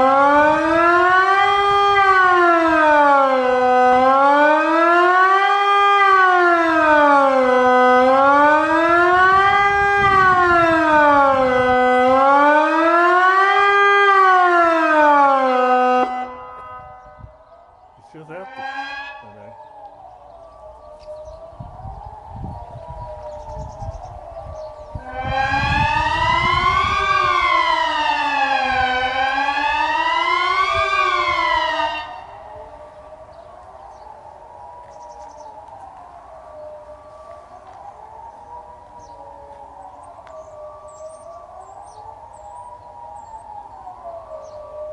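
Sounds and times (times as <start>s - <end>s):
rising and falling siren: 0.0s - 44.9s.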